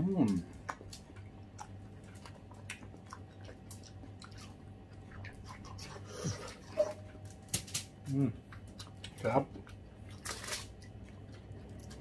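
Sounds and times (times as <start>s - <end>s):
people chewing watermelon: 0.0s - 12.0s.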